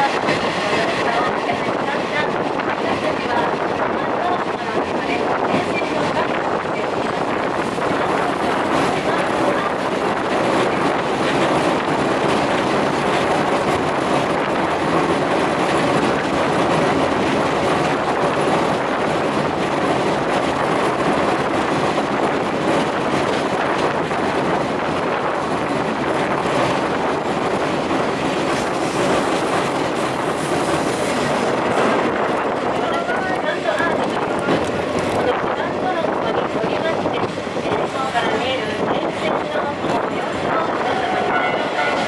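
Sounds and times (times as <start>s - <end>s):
train wheels clattering on rails: 0.0s - 42.0s.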